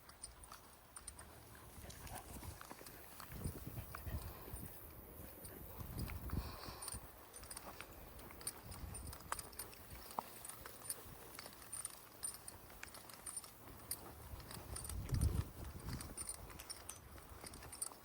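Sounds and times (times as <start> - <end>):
dog tags jingling: 0.0 - 18.0
walking footsteps: 0.0 - 18.0.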